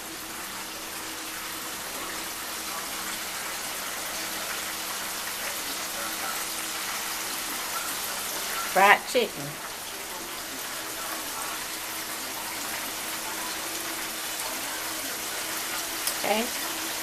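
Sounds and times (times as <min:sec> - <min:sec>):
oil frying sizzle: 0:00.0 - 0:17.0.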